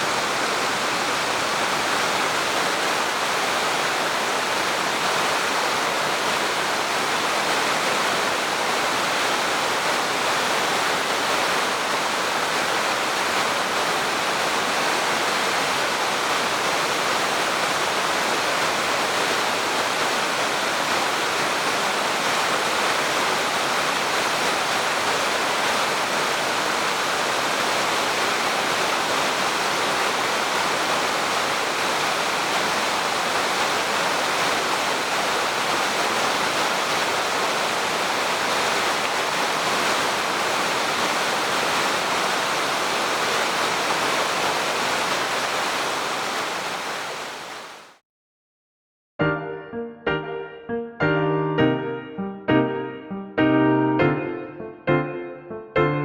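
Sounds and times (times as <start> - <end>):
stream rushing: 0.0 - 48.0.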